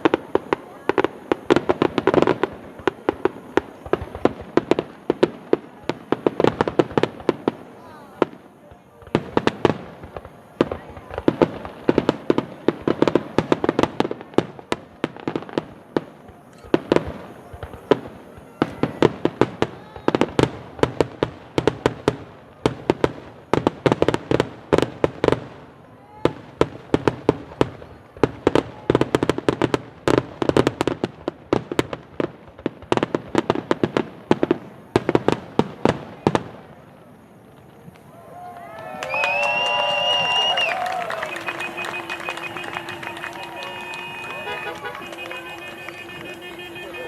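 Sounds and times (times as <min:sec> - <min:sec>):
fireworks bangs and crackles: 0:00.0 - 0:47.0.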